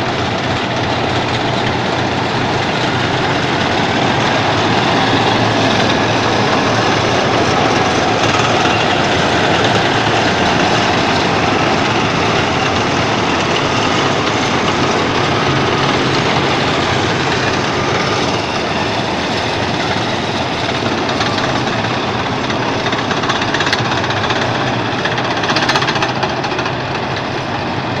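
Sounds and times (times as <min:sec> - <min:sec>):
heavy diesel engines running: 0:00.0 - 0:28.0
steel tracks clanking: 0:00.0 - 0:28.0.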